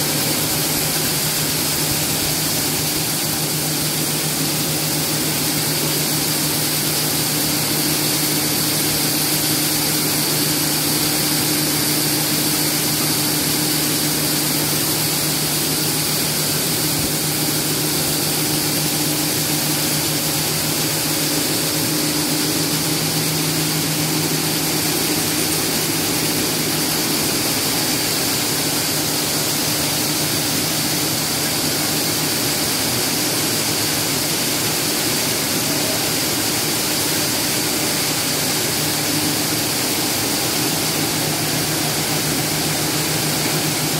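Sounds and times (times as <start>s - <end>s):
high machine whine: 0.0s - 43.9s
seed-processing machinery running: 0.0s - 43.9s.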